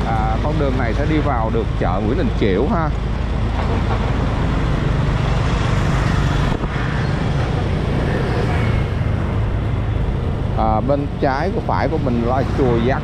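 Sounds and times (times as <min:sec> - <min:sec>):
road noise: 0:00.0 - 0:13.0
scooter engines rumbling: 0:00.0 - 0:13.0.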